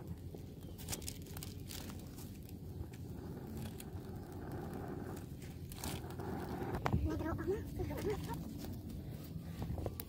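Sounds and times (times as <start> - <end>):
low rumble: 0.0 - 10.0
wood fire crackling: 0.0 - 10.0.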